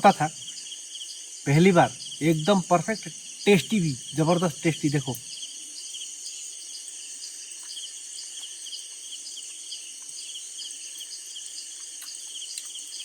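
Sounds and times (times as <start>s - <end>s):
crickets chirping: 0.0s - 13.0s
high-pitched insect trill: 0.0s - 13.0s.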